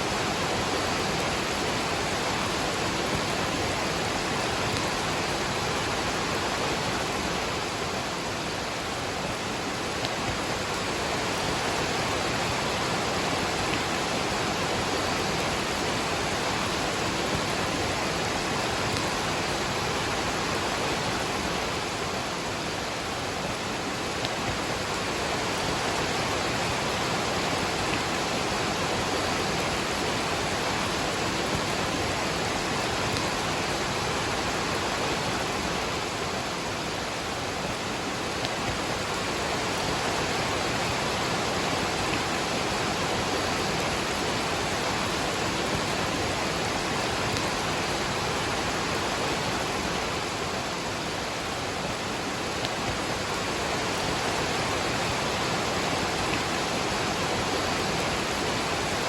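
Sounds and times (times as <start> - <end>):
rain falling: 0.0 - 59.0
waterfall rushing: 0.0 - 59.0.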